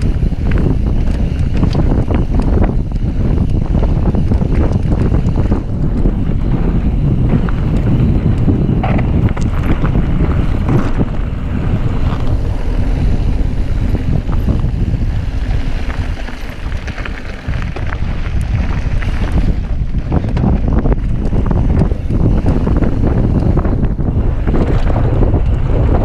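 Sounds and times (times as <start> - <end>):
bike clicks and rattles: 0.0 - 26.0
tyre noise on dirt trail: 0.0 - 26.0
wind buffeting microphone: 0.0 - 26.0.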